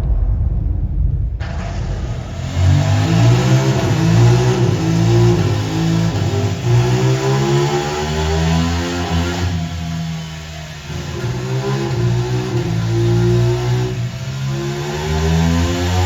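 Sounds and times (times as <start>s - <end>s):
motorcycle engine: 1.4s - 16.0s.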